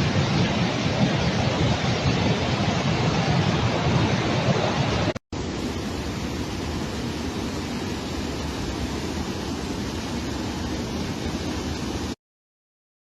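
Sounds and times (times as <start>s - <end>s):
floodwater rushing: 0.0s - 12.2s.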